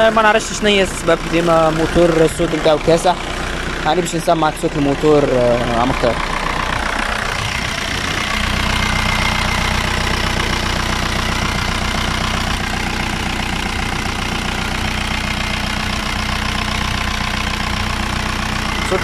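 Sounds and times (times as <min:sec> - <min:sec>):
diesel car engine idling: 0:00.0 - 0:19.0.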